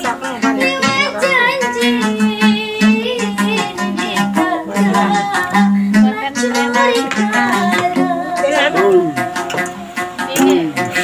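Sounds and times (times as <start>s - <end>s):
song with plucked strings and bass: 0.0s - 11.0s.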